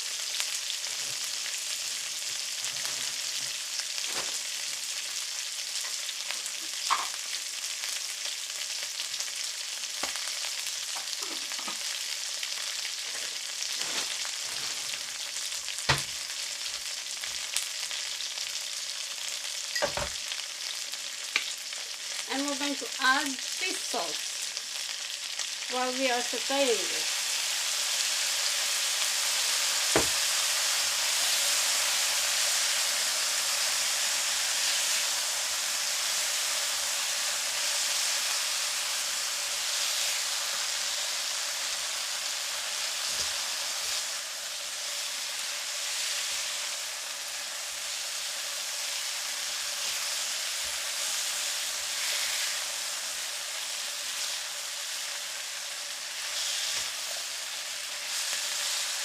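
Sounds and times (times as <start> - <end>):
chicken sizzling in a frying pan: 0.0 - 59.0.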